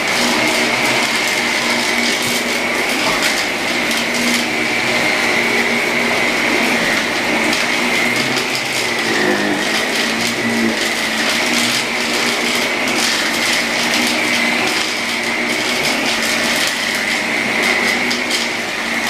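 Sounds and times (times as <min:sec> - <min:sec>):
debris rattling up vacuum intake: 0:00.0 - 0:19.0
vacuum cleaner whining: 0:00.0 - 0:19.0.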